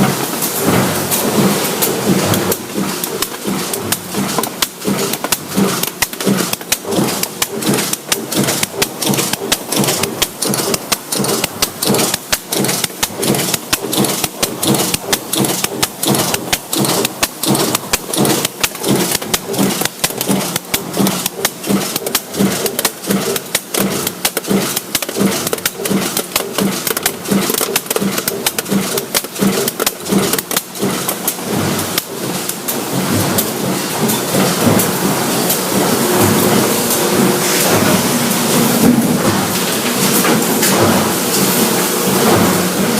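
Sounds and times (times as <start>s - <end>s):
metallic impacts of machinery: 0.0s - 42.9s
steady mechanical din: 0.0s - 42.9s.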